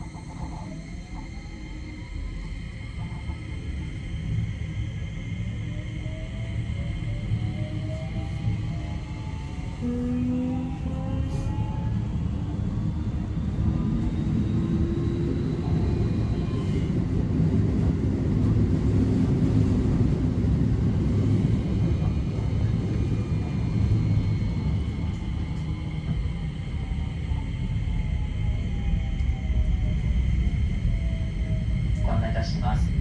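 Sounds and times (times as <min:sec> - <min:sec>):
train inverter whine: 0:00.0 - 0:33.0
train running rumble: 0:00.0 - 0:33.0.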